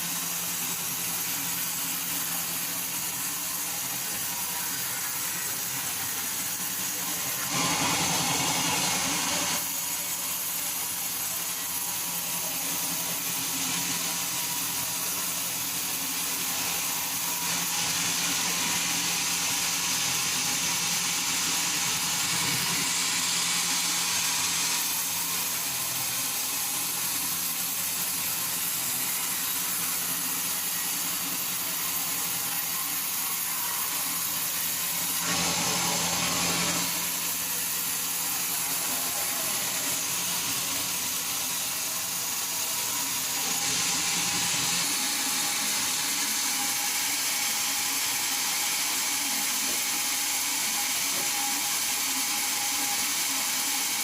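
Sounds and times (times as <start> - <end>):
sawmill engine hum: 0.0 - 54.0.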